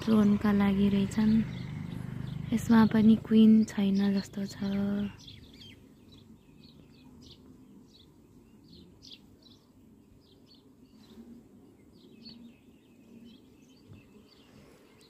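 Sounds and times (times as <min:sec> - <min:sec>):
honeybees humming: 0:00.0 - 0:15.0
small birds chirping: 0:00.0 - 0:15.0.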